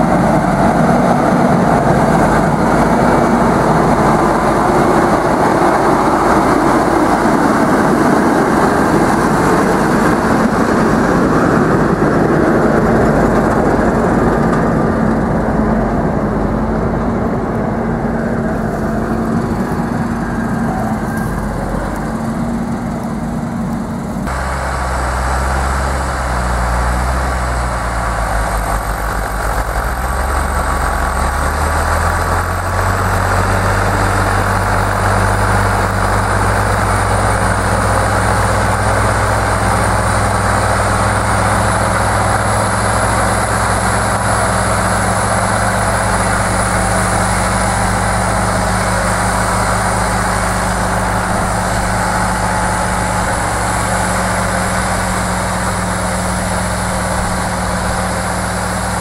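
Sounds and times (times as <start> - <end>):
steadier engine note: 0.0 - 59.0
tractor diesel engine pulling plough: 0.0 - 59.0.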